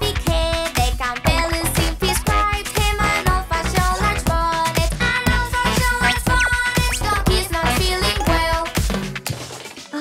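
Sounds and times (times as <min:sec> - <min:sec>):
upbeat children's music: 0:00.0 - 0:10.0.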